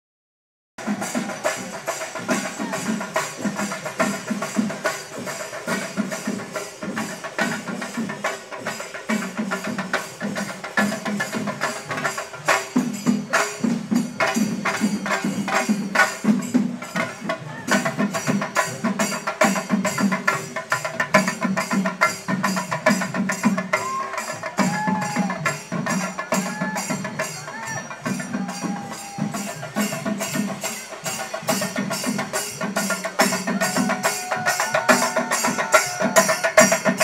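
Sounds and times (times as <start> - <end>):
drums beaten in fast rhythm: 0.8 - 37.0
jangling cymbals: 0.8 - 37.0.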